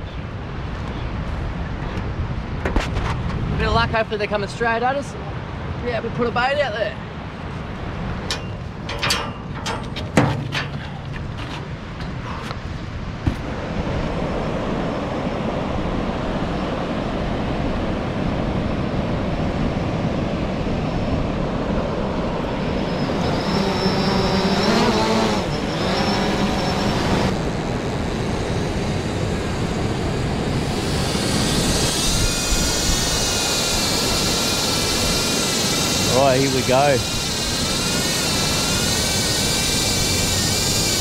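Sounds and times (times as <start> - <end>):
wind: 0.0 - 41.0
drone propellers whining: 7.8 - 41.0.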